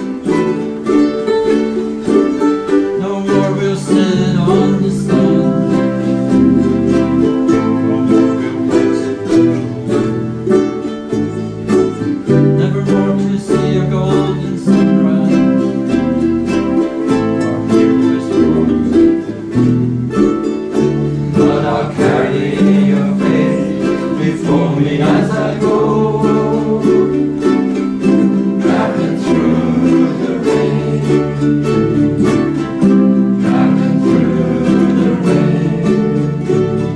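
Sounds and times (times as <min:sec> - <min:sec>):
ukuleles strumming: 0:00.0 - 0:36.9.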